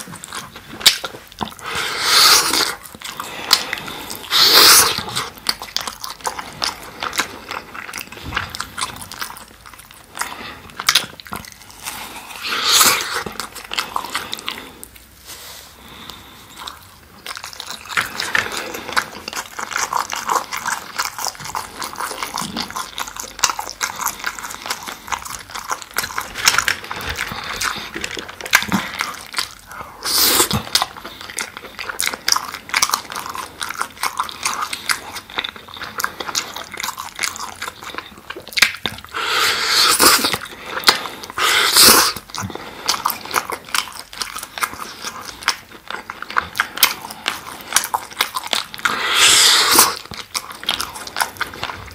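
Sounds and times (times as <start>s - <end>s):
wet chewing mouth sounds: 0.0s - 51.9s.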